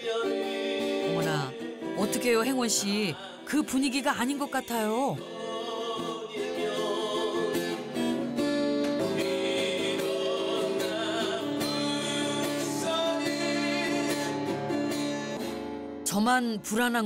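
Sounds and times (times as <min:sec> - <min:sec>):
man singing into a microphone: 0:00.0 - 0:07.8, 0:09.2 - 0:15.4
acoustic guitar strumming: 0:00.0 - 0:17.0.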